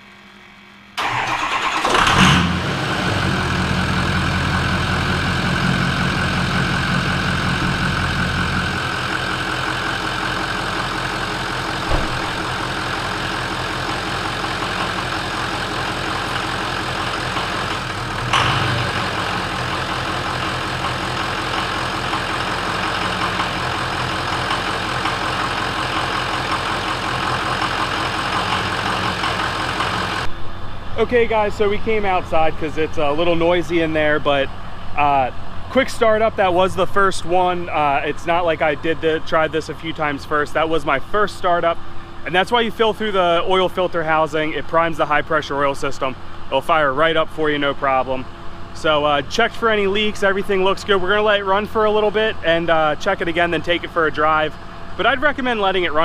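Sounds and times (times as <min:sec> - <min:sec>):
diesel engine cranking and idling: 0:00.1 - 0:56.0.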